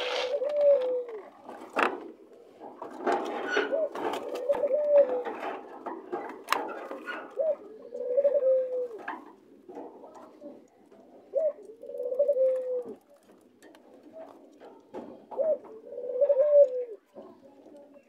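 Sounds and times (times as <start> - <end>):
doves cooing: 0.0 - 18.0.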